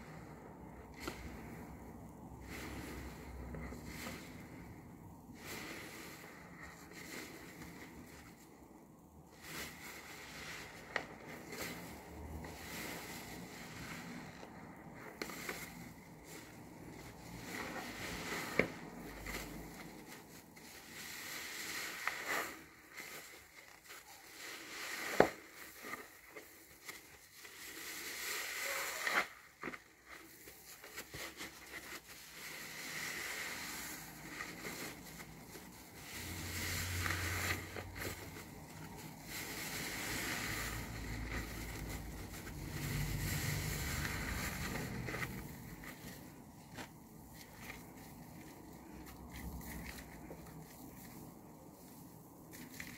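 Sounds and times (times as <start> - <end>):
wet sponge squelching: 0.0 - 52.9.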